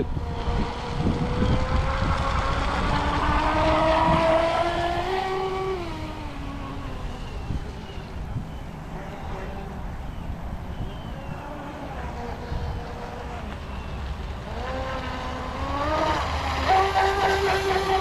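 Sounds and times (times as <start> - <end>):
electric motor whining: 0.0 - 18.0
wind rumble on microphone: 0.0 - 18.0.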